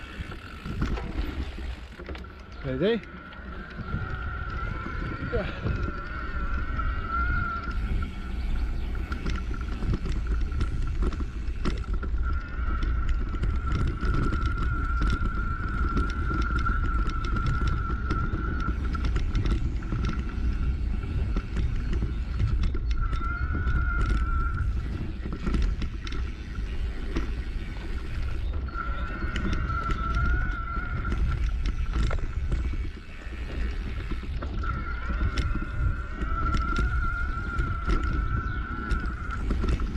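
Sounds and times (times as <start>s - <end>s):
bike rattles and knocks: 0.0s - 39.9s
tyre noise: 0.0s - 39.9s
wind rumble on microphone: 0.0s - 39.9s.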